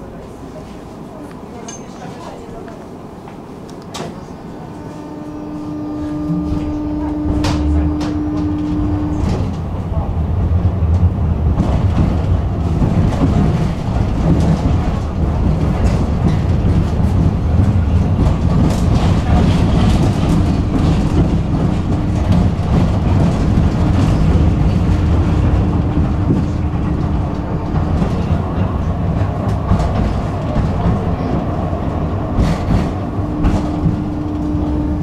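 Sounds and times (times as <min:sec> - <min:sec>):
tram wheels rumbling on rails: 0:00.0 - 0:35.0.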